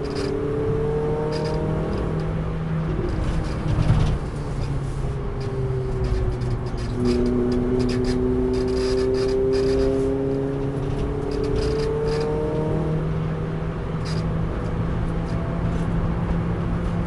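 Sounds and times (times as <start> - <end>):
car engine revving: 0.0 - 17.0
tyre and wind noise: 0.0 - 17.0.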